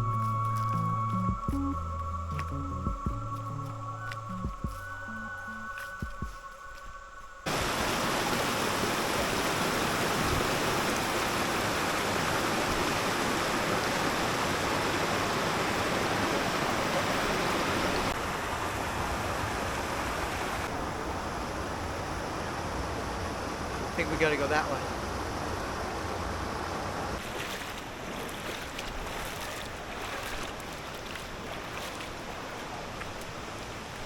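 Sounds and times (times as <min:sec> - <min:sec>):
rushing white water: 0:03.4 - 0:34.0.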